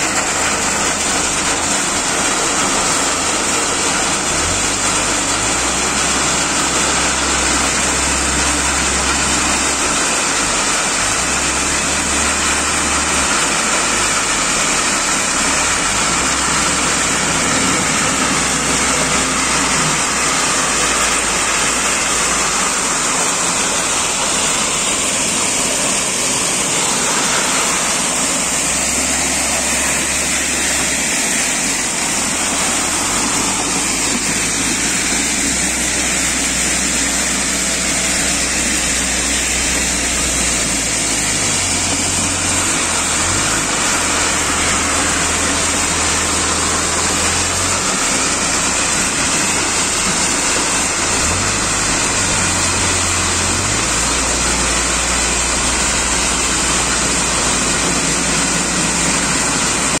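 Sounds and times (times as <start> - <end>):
granular material rattling in drum: 0.0 - 60.0
low machine drone: 0.0 - 60.0.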